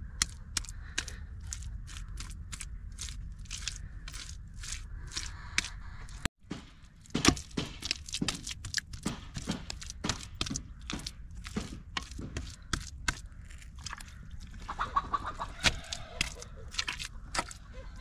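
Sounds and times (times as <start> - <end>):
wet clay squelching and slapping: 0.0 - 18.0.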